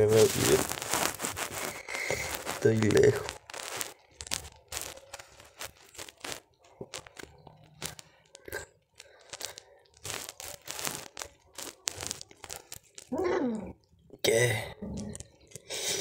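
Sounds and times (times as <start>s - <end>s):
crackling and rustling: 0.0s - 16.0s.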